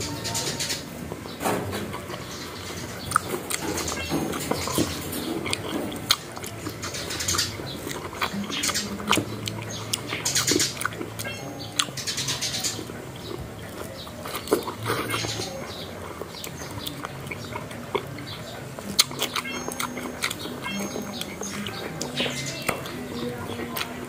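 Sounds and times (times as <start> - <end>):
wet mouth eating sounds: 0.0 - 24.0.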